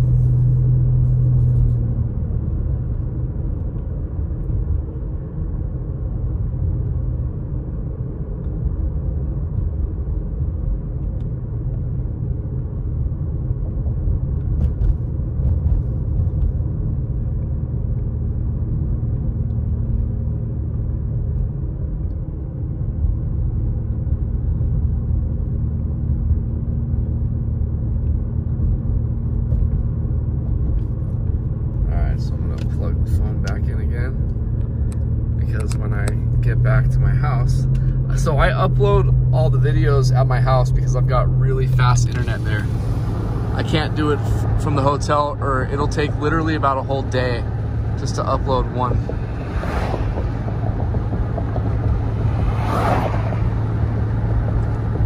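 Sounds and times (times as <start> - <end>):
car road noise: 0.0 - 55.0.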